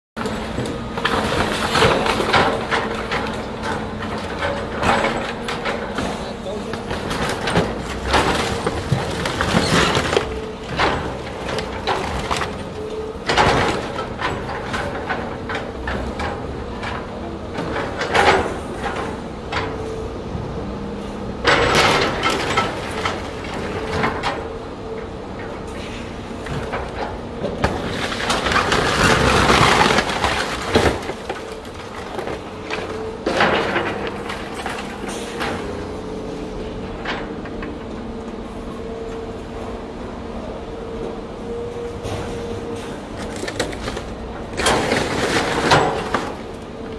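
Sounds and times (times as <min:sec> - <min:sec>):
excavator engine running: 0:00.2 - 0:46.9.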